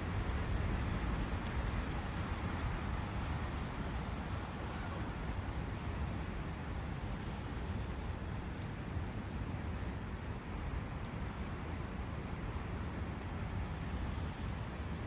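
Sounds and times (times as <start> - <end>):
faint light ticks: 0.1 - 3.5, 5.8 - 14.8.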